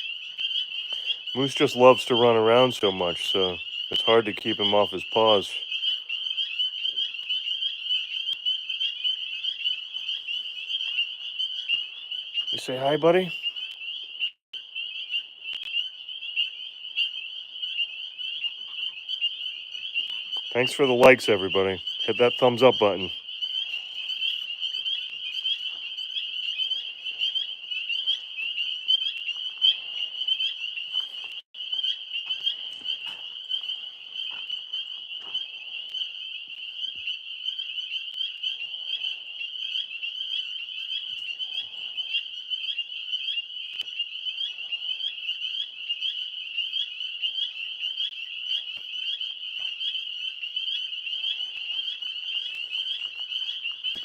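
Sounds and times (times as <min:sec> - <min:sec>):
tree frogs trilling: 0:00.0 - 0:54.0.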